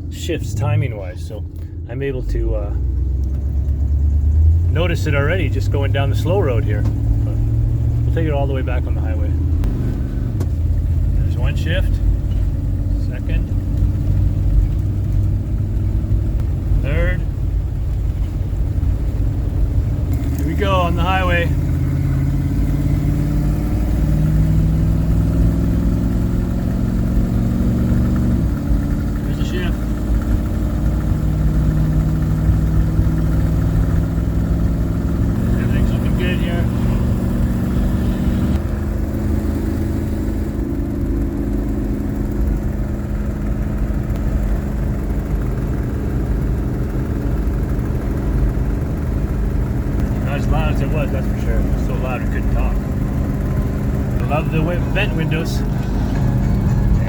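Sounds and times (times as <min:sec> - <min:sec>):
road noise: 0:00.0 - 0:57.0
vehicle engine pulling under load: 0:00.0 - 0:57.0.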